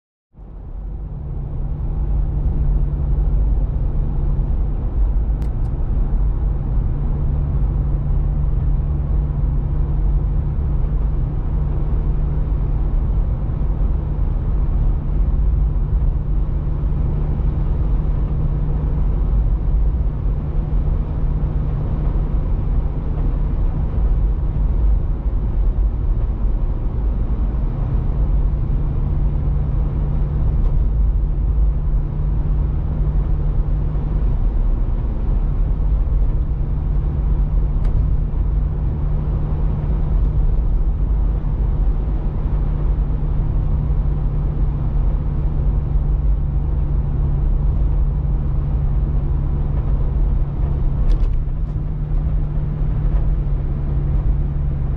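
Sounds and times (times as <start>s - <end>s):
engine and tyre hum: 0.3s - 54.9s.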